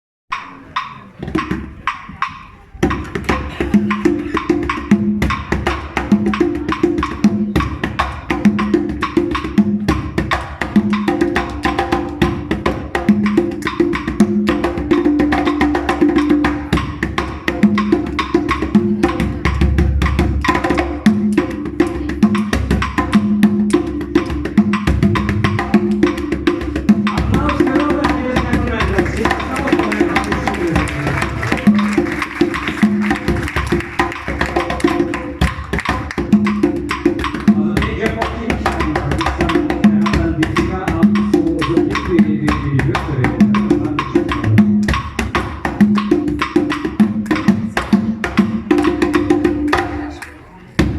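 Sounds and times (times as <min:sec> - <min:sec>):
conga drums playing: 0:00.3 - 0:50.9.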